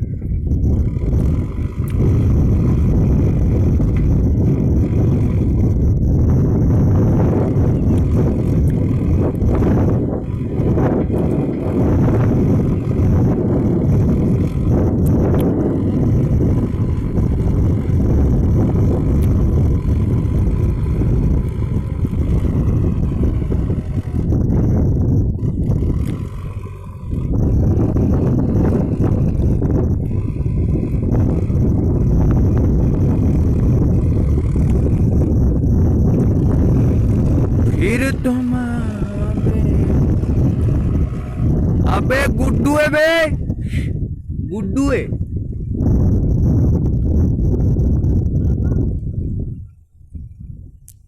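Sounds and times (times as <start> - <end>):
diesel engine rumbling: 0.0 - 51.0
wind buffeting microphone: 0.0 - 51.0.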